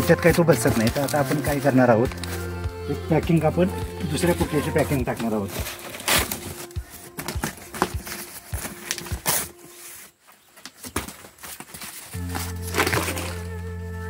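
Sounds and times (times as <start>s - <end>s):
background music: 0.0s - 10.1s, 12.2s - 14.0s
cardboard handling noise: 0.0s - 13.7s
footsteps: 0.2s - 13.6s.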